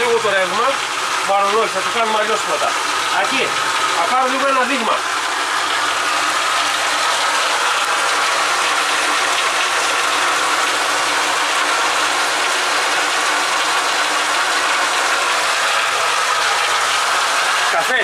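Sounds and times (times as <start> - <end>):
pump running loudly: 0.0 - 18.0.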